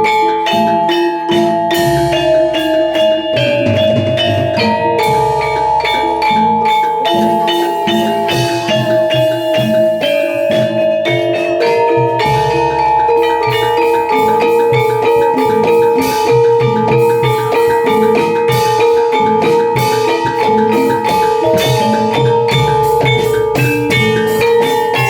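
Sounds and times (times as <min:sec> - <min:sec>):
bronze metallophones ringing: 0:00.0 - 0:25.0
drums: 0:00.0 - 0:25.0.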